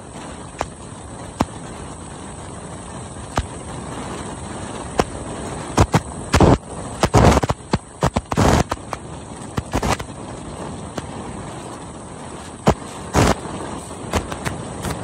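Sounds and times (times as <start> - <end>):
crackling wind gusts: 0.0 - 15.0
wind buffeting microphone: 0.0 - 15.0.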